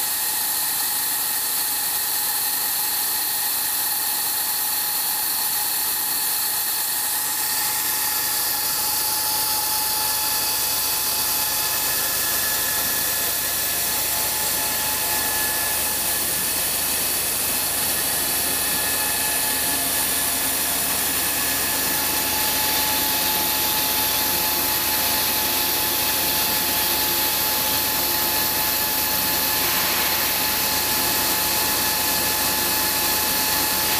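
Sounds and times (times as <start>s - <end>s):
milling machine cutting metal: 0.0s - 33.9s.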